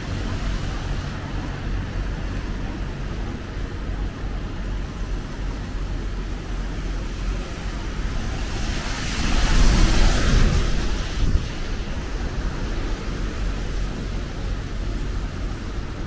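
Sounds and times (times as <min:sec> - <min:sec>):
low rumble of traffic engines: 0:00.0 - 0:16.0
tyres hissing on wet road: 0:00.0 - 0:16.0.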